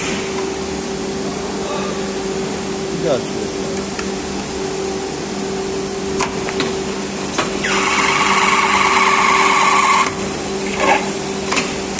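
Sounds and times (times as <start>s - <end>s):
loud machine noise: 0.0s - 11.9s
machine motor hum: 0.0s - 11.9s.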